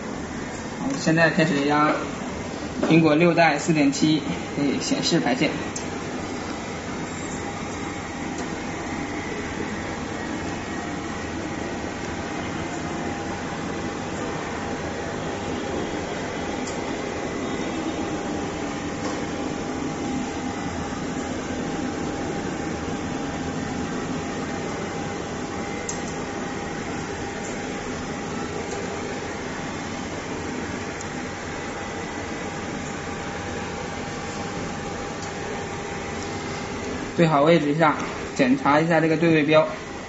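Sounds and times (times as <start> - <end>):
faint steady whine: 0.0 - 40.0
machinery hum and hiss: 0.0 - 40.0.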